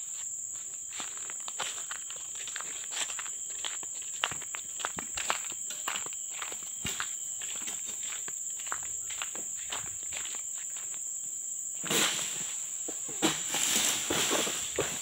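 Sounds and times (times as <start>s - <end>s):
footsteps crunching on dry fronds: 0.0s - 11.0s, 11.8s - 15.0s
high-pitched insect drone: 0.0s - 15.0s.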